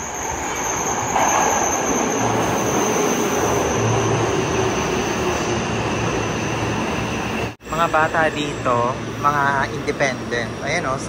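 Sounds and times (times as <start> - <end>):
faint train whine: 0.0 - 11.0
subway train rushing into platform: 0.0 - 11.0.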